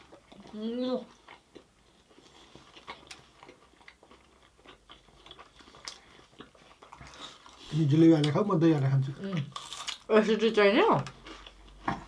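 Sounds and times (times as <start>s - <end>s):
person chewing and crunching food: 0.0s - 10.1s, 10.9s - 12.0s.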